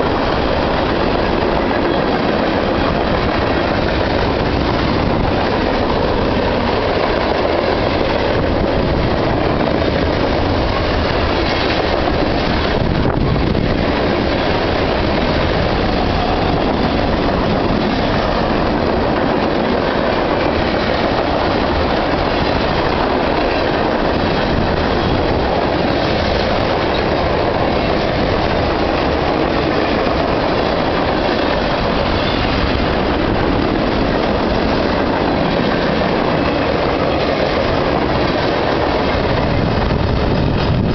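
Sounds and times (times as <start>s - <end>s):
train wheels on rail: 0.0s - 40.9s.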